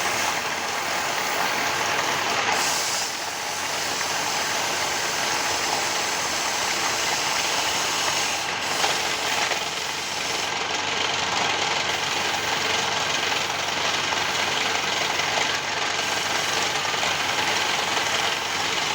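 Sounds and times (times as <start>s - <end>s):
wood lathe cutting wood: 0.0s - 18.9s.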